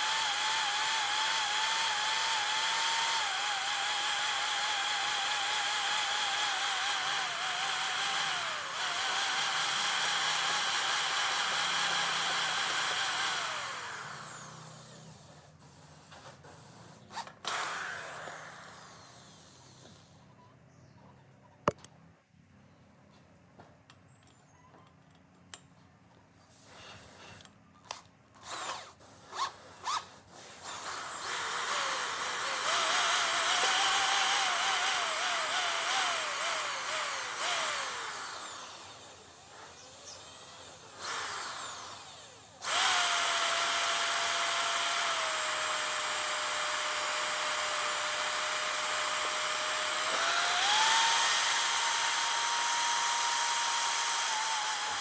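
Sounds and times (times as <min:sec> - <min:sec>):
electric power tool motor: 0:00.0 - 0:15.4, 0:16.6 - 0:20.1, 0:28.4 - 0:55.0.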